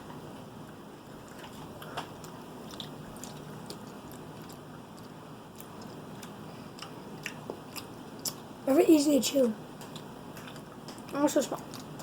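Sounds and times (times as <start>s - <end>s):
person chewing gummy candy: 0.6s - 8.5s, 9.8s - 12.0s.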